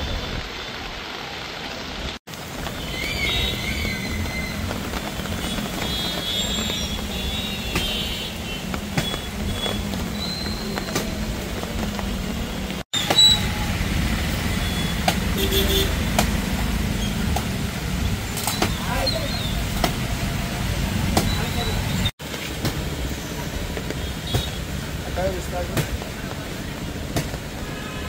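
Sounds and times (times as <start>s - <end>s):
traffic on a wet road: 0.0s - 28.0s.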